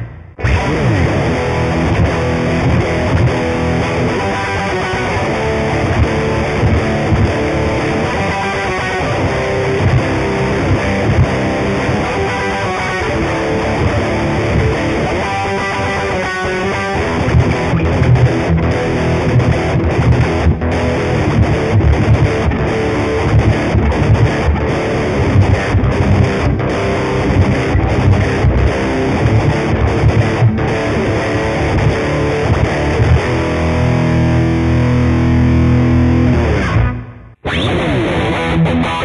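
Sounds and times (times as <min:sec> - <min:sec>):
distorted electric guitar riff: 0:00.0 - 0:39.0.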